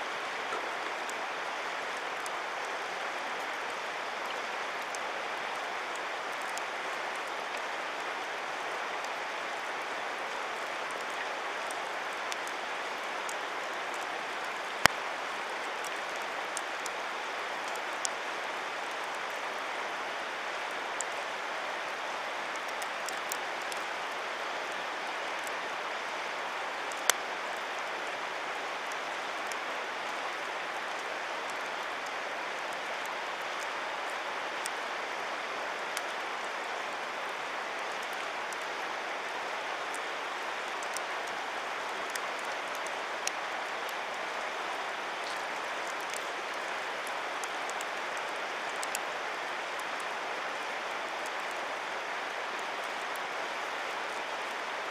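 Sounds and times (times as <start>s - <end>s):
campfire crackling: 0.1s - 24.2s, 26.4s - 35.2s, 35.9s - 50.2s.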